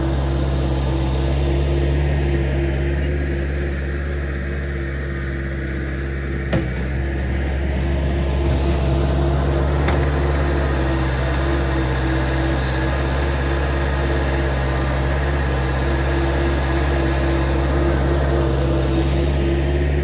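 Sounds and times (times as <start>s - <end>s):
skid steer engine running: 0.0s - 20.0s.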